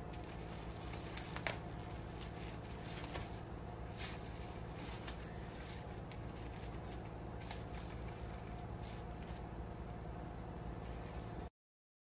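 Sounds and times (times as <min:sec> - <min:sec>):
plastic bag crinkling: 0:00.0 - 0:11.5
steady low hum: 0:00.0 - 0:11.5.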